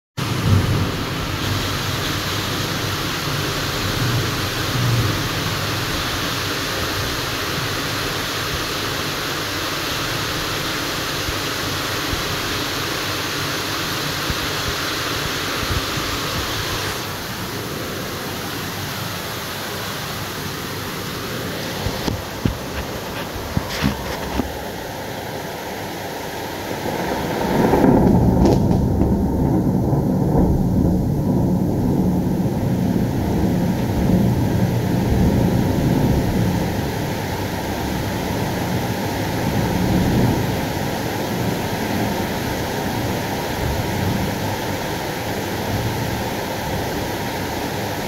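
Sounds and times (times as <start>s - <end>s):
low thunder rumble: 0.2s - 19.2s, 20.9s - 48.0s
heavy rain hissing: 0.2s - 48.0s.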